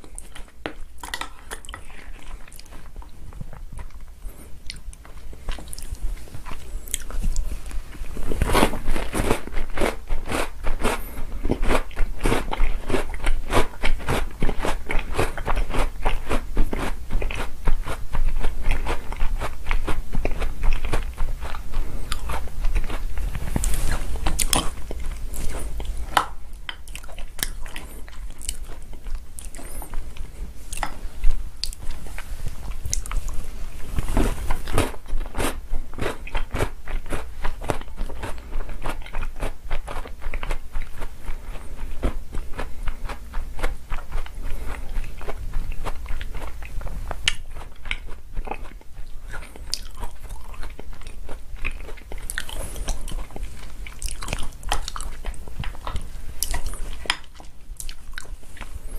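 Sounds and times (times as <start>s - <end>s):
chewing and crunching cookies: 0.0s - 58.9s.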